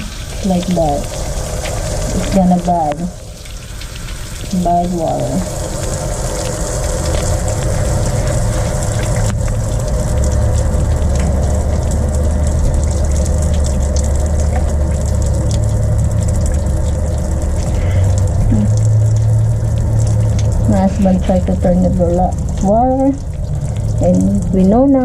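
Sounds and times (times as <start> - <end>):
water gushing from pipe: 0.0 - 25.0.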